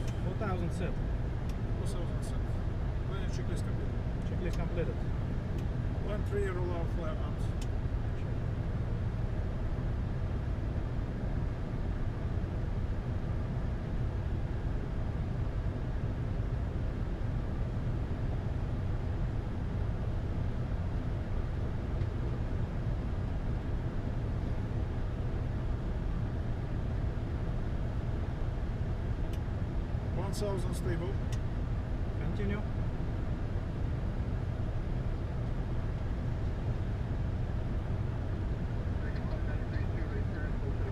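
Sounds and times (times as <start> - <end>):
airflow and engine rumble in cockpit: 0.0 - 40.9.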